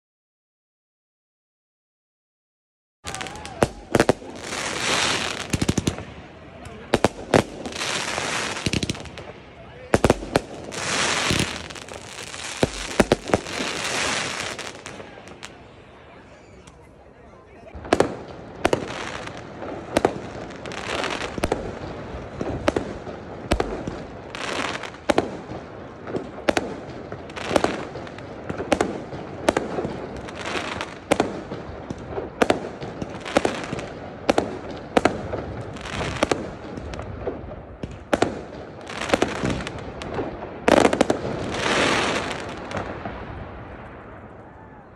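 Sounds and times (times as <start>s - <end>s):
fireworks bangs: 3.0s - 44.9s
fireworks crackling: 3.0s - 44.9s.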